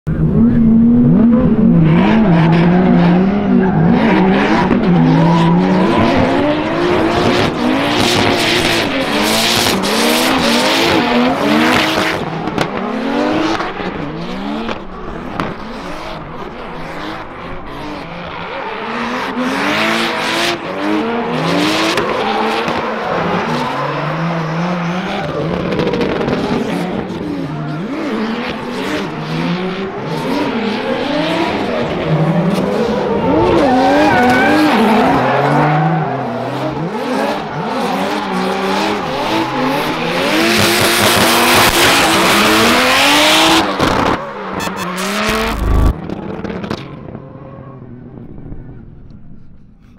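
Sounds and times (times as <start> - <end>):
car engines revving: 0.1 - 49.9
tyres squealing and skidding: 1.9 - 12.0, 13.9 - 45.6.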